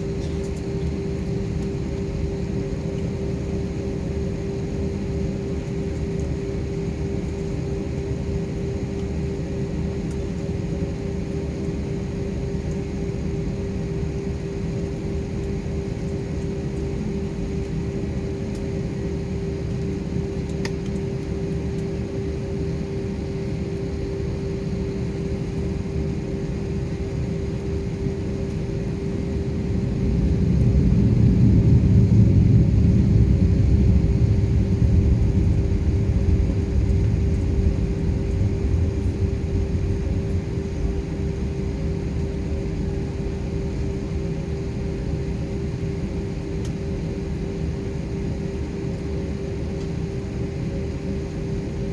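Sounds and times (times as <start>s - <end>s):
airliner engine drone in cabin: 0.0s - 51.9s.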